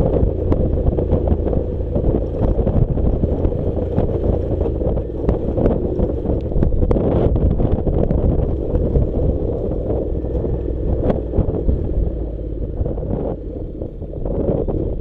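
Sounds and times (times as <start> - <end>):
motorcycle engine rumble: 0.0 - 15.0
tyres on gravel: 0.0 - 15.0
wind buffeting microphone: 0.0 - 15.0.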